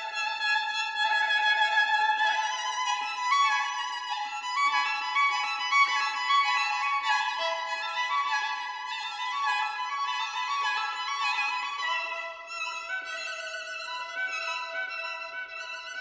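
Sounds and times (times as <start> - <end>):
violin melody: 0.0 - 16.0.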